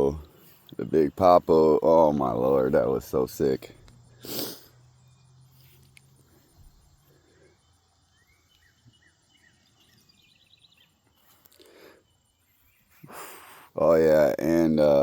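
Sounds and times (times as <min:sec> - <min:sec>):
bird chirps: 0:00.0 - 0:15.0
insects trilling: 0:00.0 - 0:15.0.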